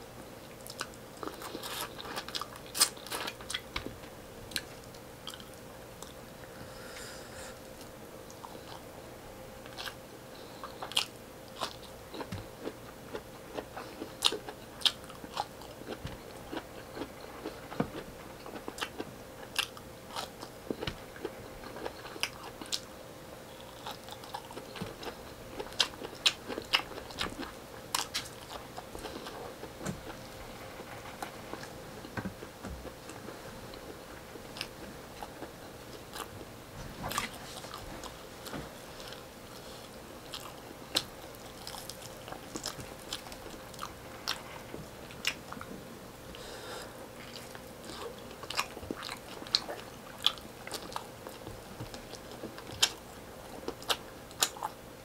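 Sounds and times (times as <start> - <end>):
person chewing and crunching food: 0.6 - 3.8, 4.5 - 8.9, 9.6 - 22.9, 23.5 - 36.5, 37.1 - 54.8.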